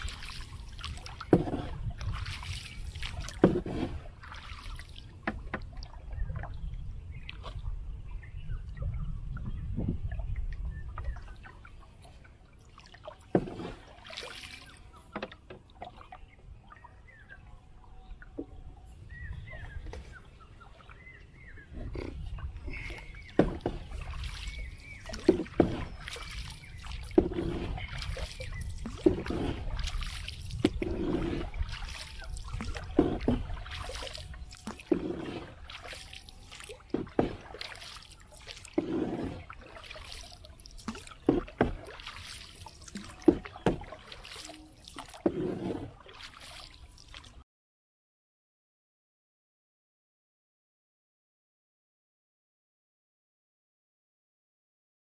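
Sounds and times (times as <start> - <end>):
paddle splashing in water: 0.0 - 7.8, 9.4 - 47.4.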